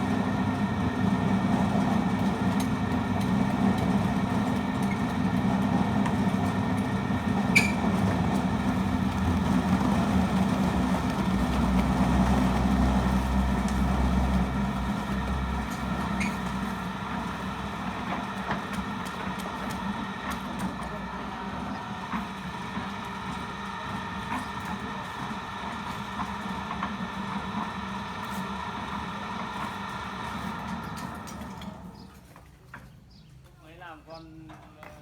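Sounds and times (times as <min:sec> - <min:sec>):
engine rumbling: 0:00.0 - 0:33.3.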